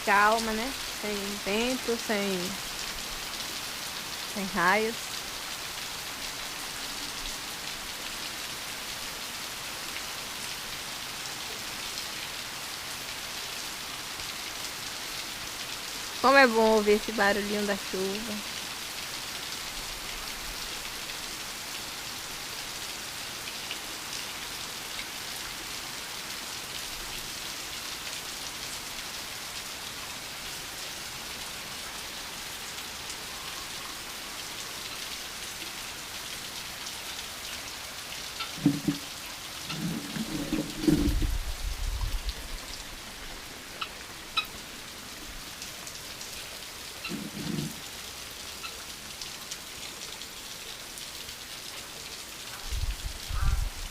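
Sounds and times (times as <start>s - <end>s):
light rain pattering: 0.0s - 53.9s.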